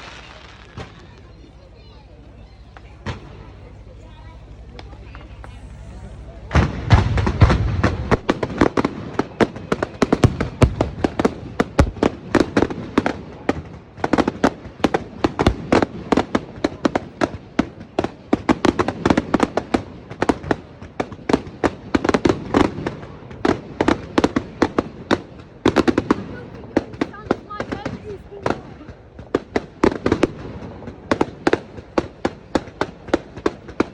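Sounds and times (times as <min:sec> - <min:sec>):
fireworks crackling bangs: 0:00.0 - 0:33.9
heavy low firework thuds: 0:02.6 - 0:33.9.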